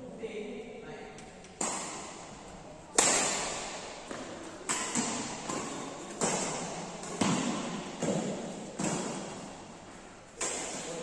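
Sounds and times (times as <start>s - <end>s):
racket hitting shuttlecock: 1.5s - 11.0s.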